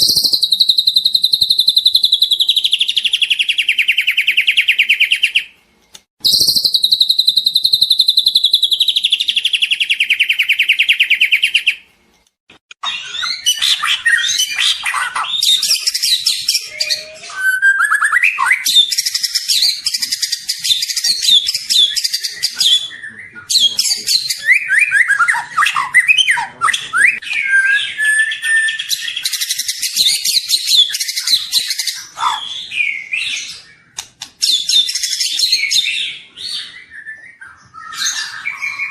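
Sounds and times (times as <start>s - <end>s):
bird singing trills and whistles: 0.0s - 5.6s, 6.2s - 11.8s, 12.8s - 38.9s.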